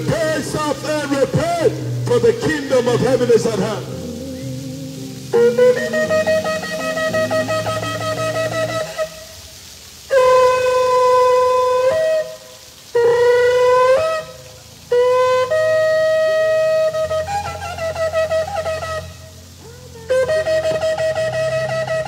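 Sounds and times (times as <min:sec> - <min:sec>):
shofar blasts: 0:00.0 - 0:09.3, 0:10.1 - 0:19.3.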